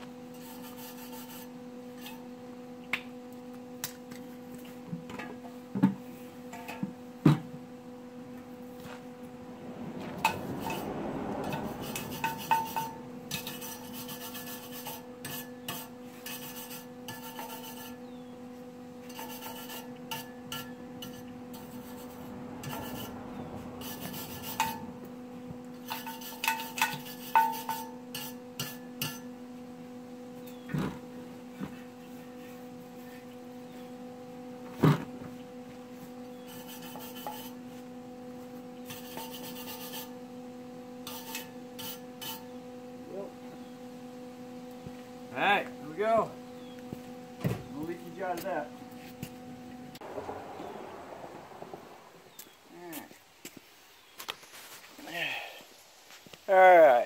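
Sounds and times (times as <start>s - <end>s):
steady hum: 0.0s - 56.8s.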